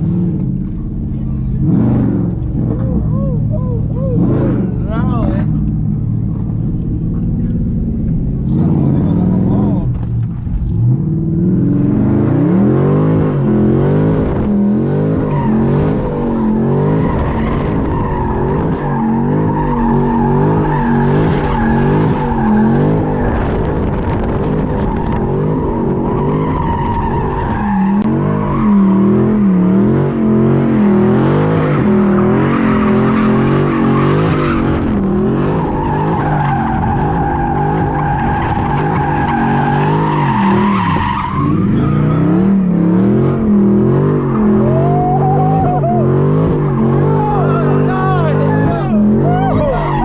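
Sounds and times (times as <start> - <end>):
car engine revving high: 0.0 - 50.0
tires squealing: 8.4 - 50.0.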